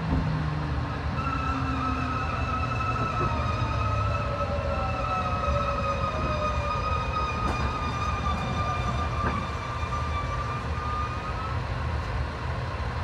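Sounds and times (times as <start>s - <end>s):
diesel railcar rumble: 0.0s - 13.0s
high brake squeal: 1.2s - 11.7s.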